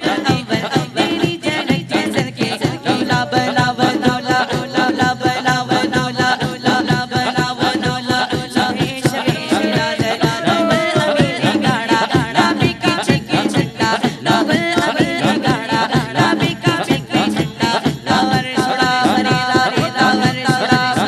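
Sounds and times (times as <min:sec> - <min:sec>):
boy singing through microphone: 0:00.0 - 0:21.0
quick drum beat: 0:00.0 - 0:21.0.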